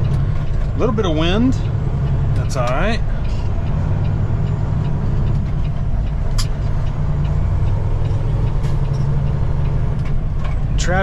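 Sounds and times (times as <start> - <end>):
road noise: 0.0 - 11.0
truck diesel engine droning: 0.0 - 11.0.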